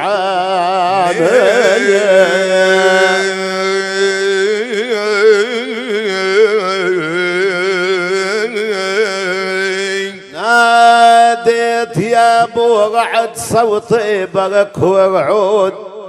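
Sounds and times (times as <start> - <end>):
man singing wordless vowel: 0.0 - 16.0.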